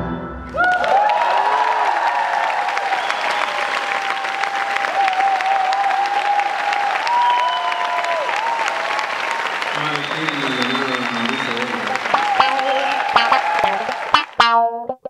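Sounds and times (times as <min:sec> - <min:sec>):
audience cheering: 0:00.5 - 0:14.8
audience clapping: 0:00.5 - 0:14.8.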